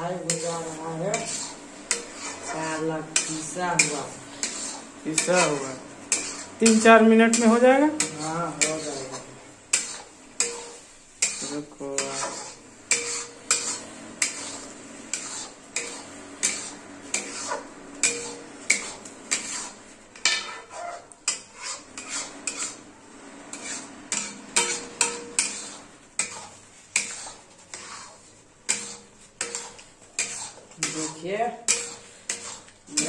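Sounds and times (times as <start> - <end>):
paste frying: 0.0 - 33.0
spatula scraping metal pan: 0.0 - 33.0.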